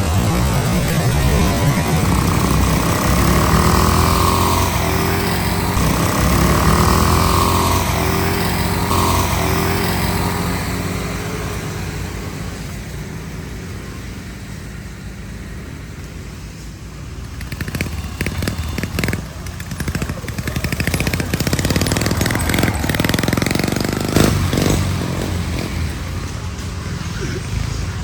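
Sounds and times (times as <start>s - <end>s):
lawn mower engine revving: 0.0s - 28.0s.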